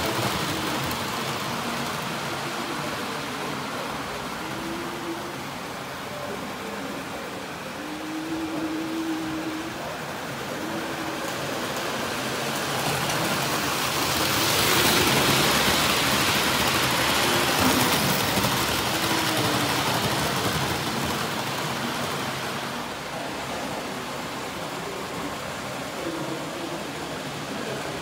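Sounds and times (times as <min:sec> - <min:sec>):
model train whirring on track: 0:00.0 - 0:28.0.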